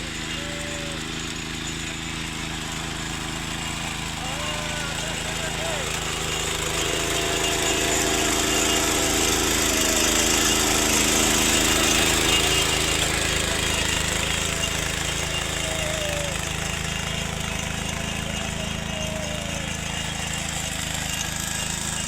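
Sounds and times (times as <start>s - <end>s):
ploughing engine running: 0.0s - 22.0s.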